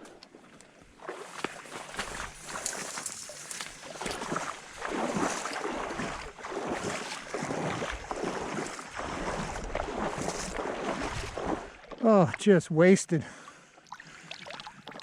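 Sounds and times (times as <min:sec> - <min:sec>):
wading through shallow water: 0:00.0 - 0:15.0.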